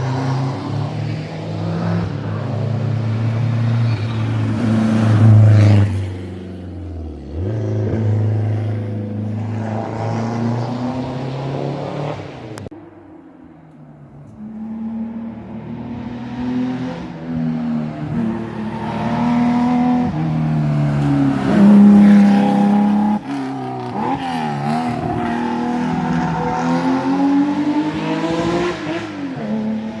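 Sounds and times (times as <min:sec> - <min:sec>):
rally car engine revving: 0:00.0 - 0:12.7, 0:14.2 - 0:30.0.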